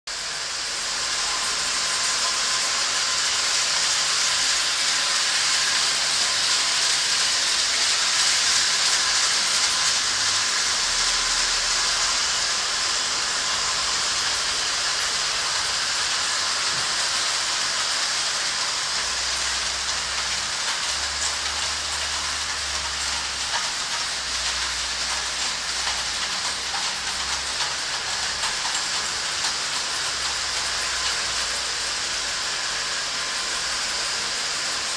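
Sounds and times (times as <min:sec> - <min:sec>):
model train wheels on rails: 0:00.1 - 0:34.9.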